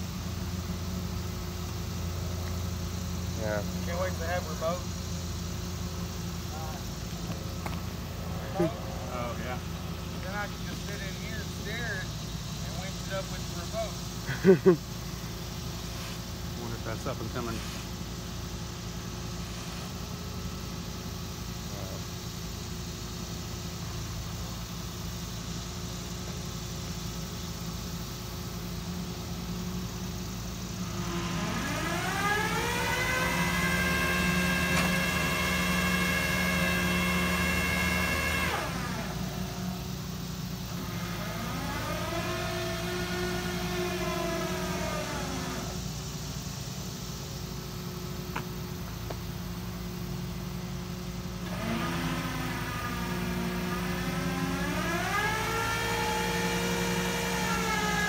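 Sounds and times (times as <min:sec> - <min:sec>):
vehicle engine idling: 0:00.0 - 0:58.0.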